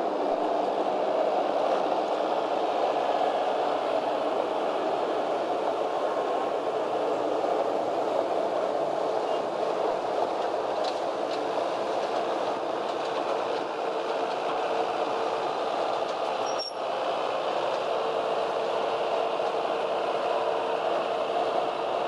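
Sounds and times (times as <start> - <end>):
train cars rolling on rails: 0.0 - 22.0.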